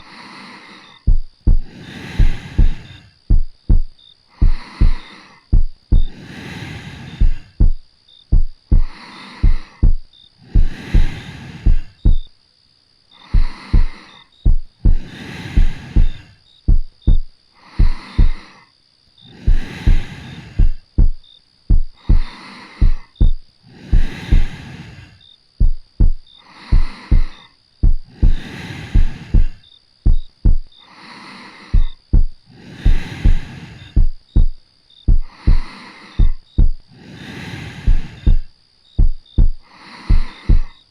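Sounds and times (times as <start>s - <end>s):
soft breathing: 0.0s - 12.3s, 13.1s - 40.9s
heartbeat thumping: 1.0s - 6.2s, 7.2s - 12.3s, 13.4s - 18.4s, 19.5s - 24.6s, 25.6s - 30.8s, 31.7s - 36.9s, 37.8s - 40.8s.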